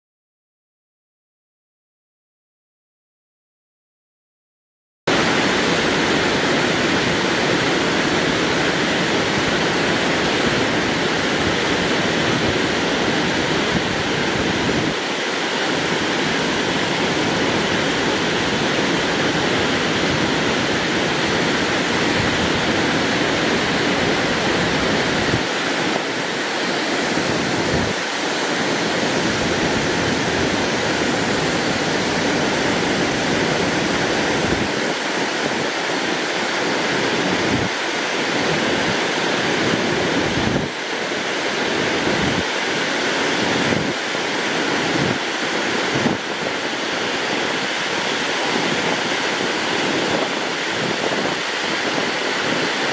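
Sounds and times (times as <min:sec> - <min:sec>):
waterfall rushing: 0:05.1 - 0:52.9.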